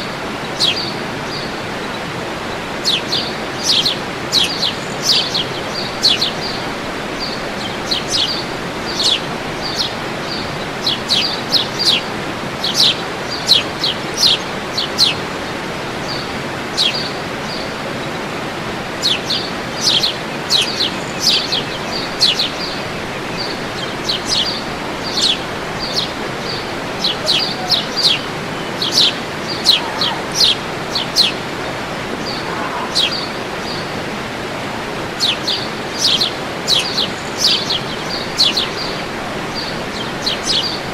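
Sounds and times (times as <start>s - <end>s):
birds chirping: 0.0s - 40.9s
waterfall rushing: 0.0s - 40.9s.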